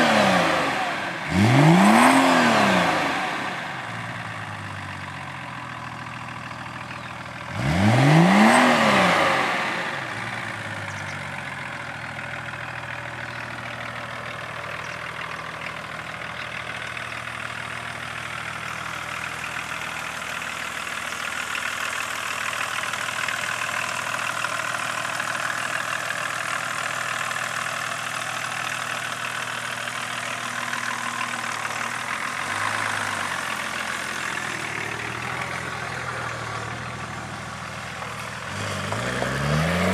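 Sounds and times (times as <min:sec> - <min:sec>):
diesel engine revving and idling: 0:00.0 - 0:39.9.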